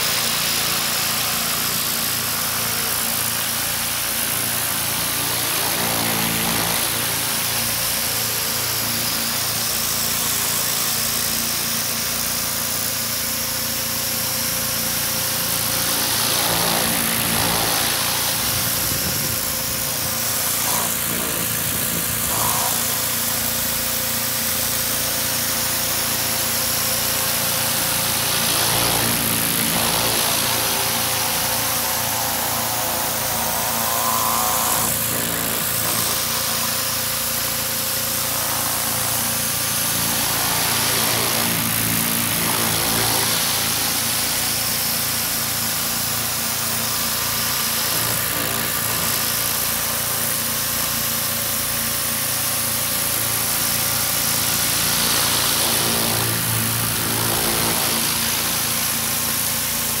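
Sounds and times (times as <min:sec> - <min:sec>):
high-pressure water jet hissing: 0:00.0 - 1:00.0
pressure washer engine hum: 0:00.0 - 1:00.0.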